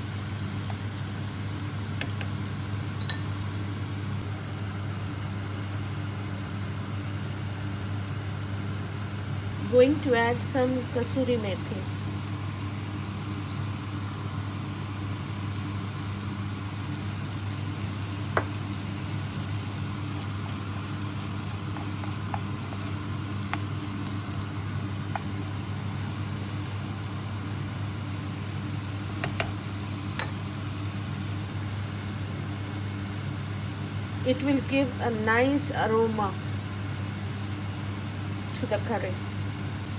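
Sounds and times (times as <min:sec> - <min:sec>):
frying hiss: 0:00.0 - 0:39.9.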